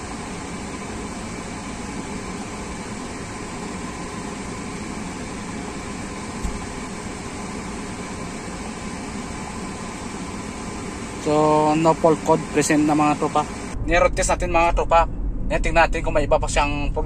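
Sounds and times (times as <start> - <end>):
air conditioning blowing: 0.0 - 17.0
car engine humming: 0.0 - 17.0.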